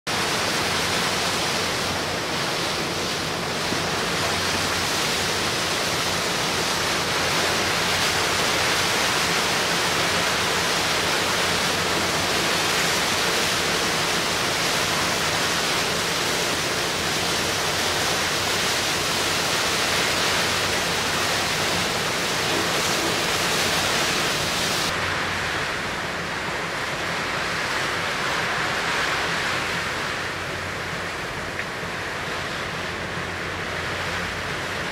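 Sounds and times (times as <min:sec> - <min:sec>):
rush of wind and sea water: 0:00.1 - 0:34.9.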